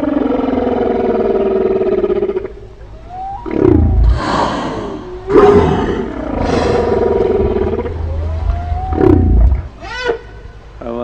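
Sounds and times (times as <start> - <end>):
rough whale calls: 0.0 - 10.6
whale song: 0.0 - 10.6.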